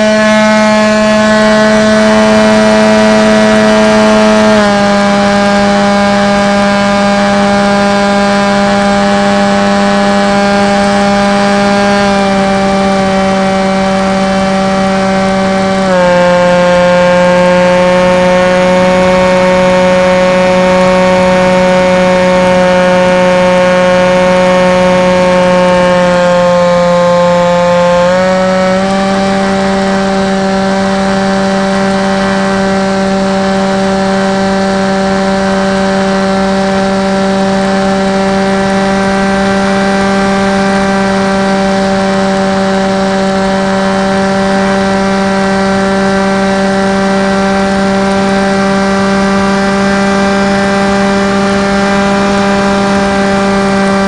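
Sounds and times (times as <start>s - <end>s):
model aeroplane motor drone: 0.0s - 54.0s.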